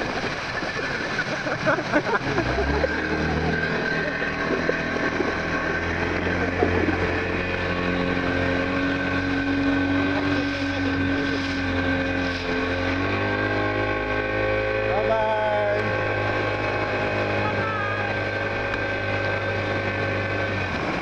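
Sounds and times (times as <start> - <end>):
motorboat engine running: 0.0 - 21.0
water rushing from wake: 0.0 - 21.0.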